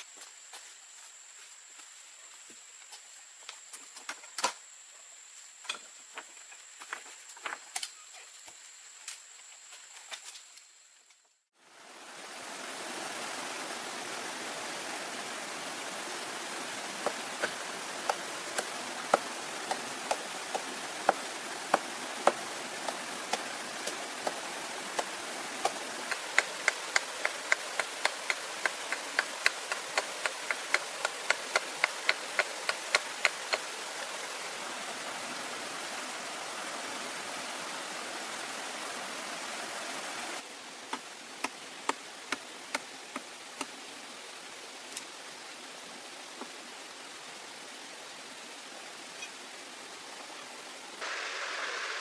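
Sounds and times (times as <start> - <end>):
running water hiss: 0.0 - 52.0.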